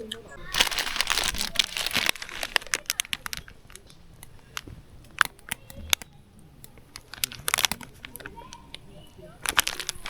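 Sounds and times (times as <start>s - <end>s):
clicks and taps of small objects: 0.6s - 8.8s.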